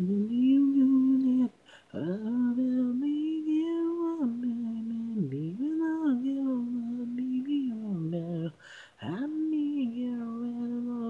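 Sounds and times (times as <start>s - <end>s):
person singing a cappella: 0.0s - 11.0s.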